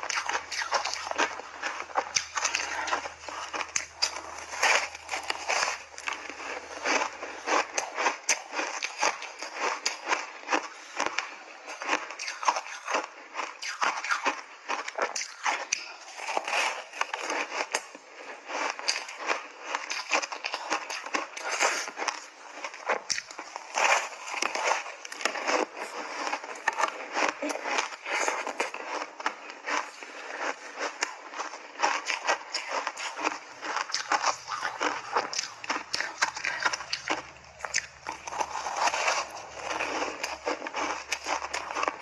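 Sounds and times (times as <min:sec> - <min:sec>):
chewing crunchy ice: 0:00.0 - 0:42.0.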